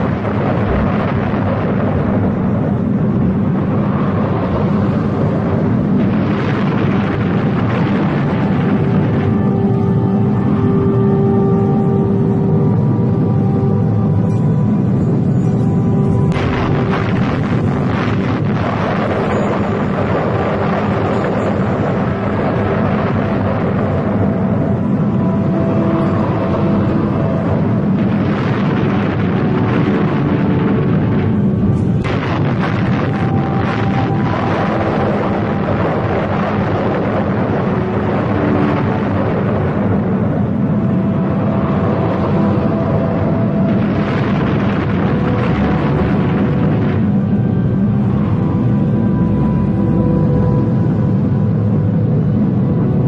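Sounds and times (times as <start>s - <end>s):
faint steady tones: 0.0s - 53.0s
loud roaring rumble: 0.0s - 53.0s.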